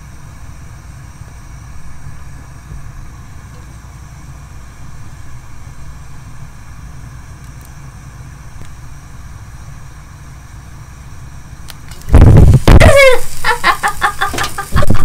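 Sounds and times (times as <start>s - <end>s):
gas burner flame rumbling: 0.0s - 15.0s.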